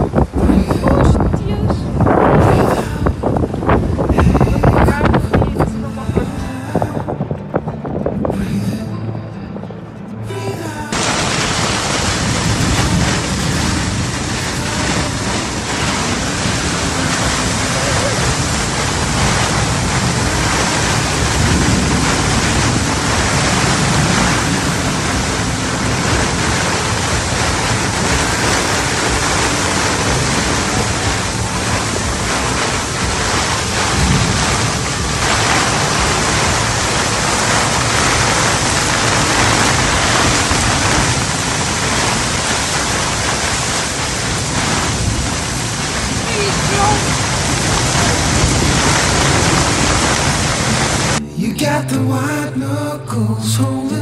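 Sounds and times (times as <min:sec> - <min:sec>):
storm wind buffeting microphone: 0:00.0 - 0:08.9, 0:10.9 - 0:51.2
sea rushing around boat: 0:00.0 - 0:54.0.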